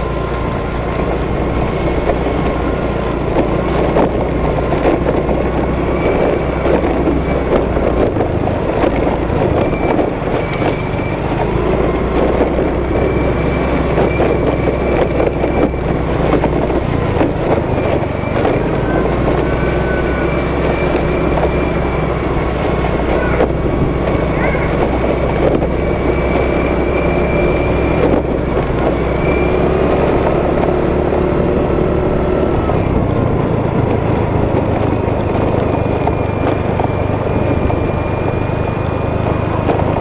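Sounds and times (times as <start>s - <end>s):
scooter engine running: 0.0s - 40.0s
wind rumble on microphone: 0.0s - 40.0s.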